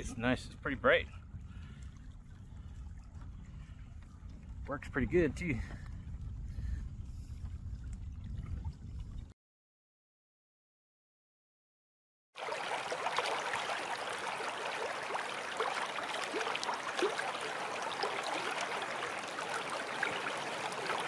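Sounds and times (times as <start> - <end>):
running water bubbling: 0.0 - 9.3, 12.4 - 21.0.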